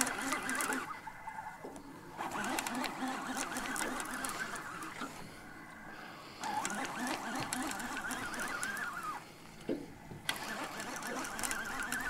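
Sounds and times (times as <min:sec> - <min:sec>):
fishing reel cranking whine: 0:00.0 - 0:01.0, 0:02.1 - 0:09.4, 0:10.3 - 0:12.0.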